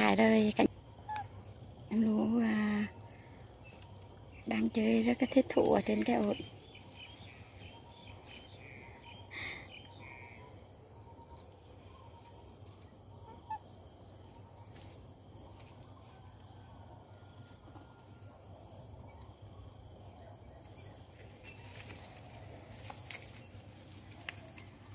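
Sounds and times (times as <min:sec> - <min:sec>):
insect trilling: 0:00.0 - 0:24.9.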